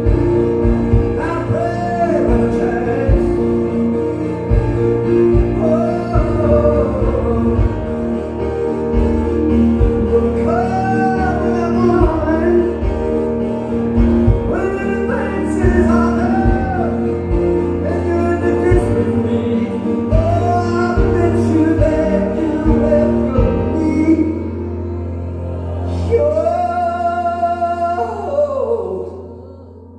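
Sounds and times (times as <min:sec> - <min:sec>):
man singing: 0:00.0 - 0:08.5, 0:09.7 - 0:25.0, 0:25.7 - 0:29.9
keyboards playing: 0:00.0 - 0:29.9.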